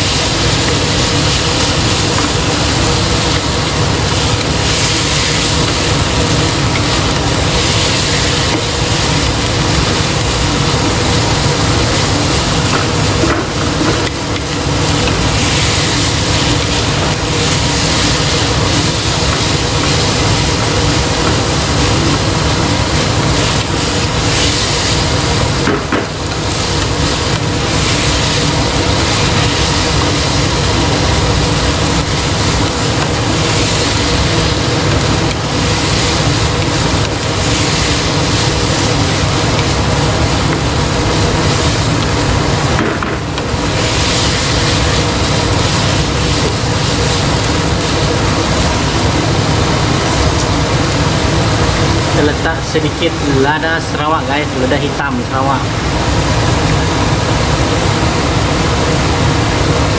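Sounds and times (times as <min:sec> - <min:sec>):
meat sizzling in hot oil: 0:00.0 - 0:59.9.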